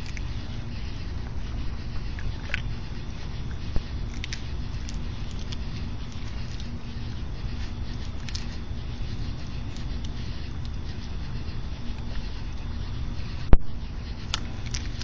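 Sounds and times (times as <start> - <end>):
animals chewing food: 0.0 - 15.0
low background rumble: 0.0 - 15.0.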